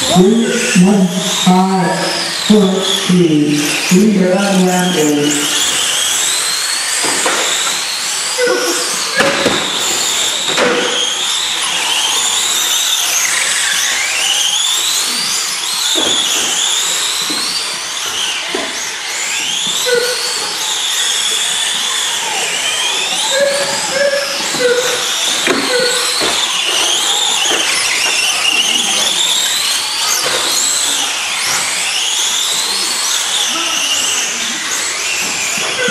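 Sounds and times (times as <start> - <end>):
rc car motors whining: 0.0 - 35.9.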